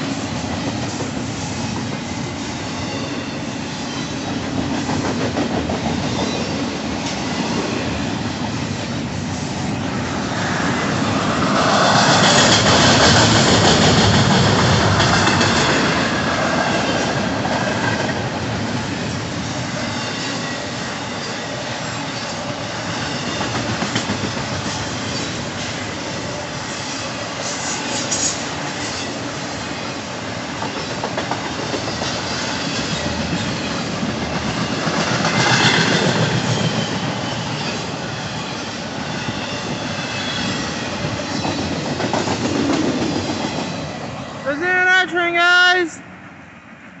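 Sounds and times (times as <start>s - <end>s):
freight train wheels rumbling: 0.0s - 45.6s
clickety-clack over rail joints: 0.4s - 2.3s, 3.9s - 8.5s, 10.4s - 25.7s, 27.4s - 44.0s.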